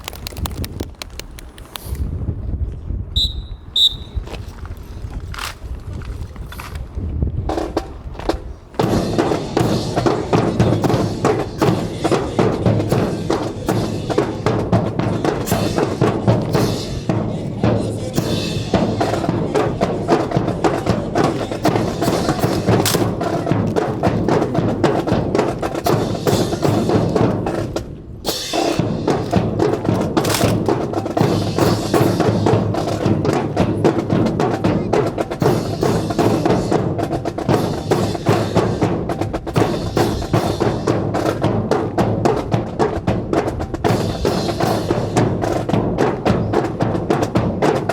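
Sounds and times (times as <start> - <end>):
marching band playing: 3.2 - 4.3, 7.5 - 47.9
loud drums: 7.5 - 47.9.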